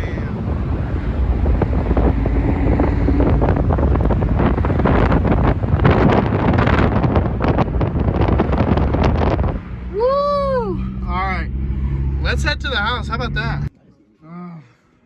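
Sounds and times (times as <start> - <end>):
wind buffeting microphone: 0.0 - 12.7
vehicle engine rumble: 0.0 - 13.7.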